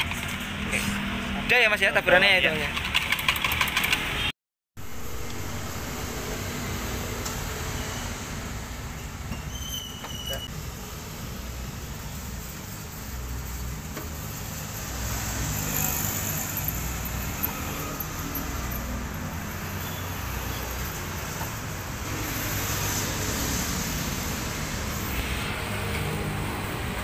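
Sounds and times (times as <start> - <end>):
road traffic passing: 0.0 - 27.0.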